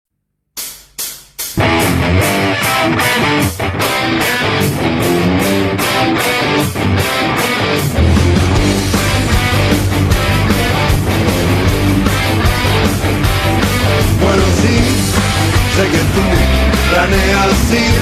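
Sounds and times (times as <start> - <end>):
electric guitar hits: 0.6 - 18.0
rock band playing driving beat: 0.6 - 18.0.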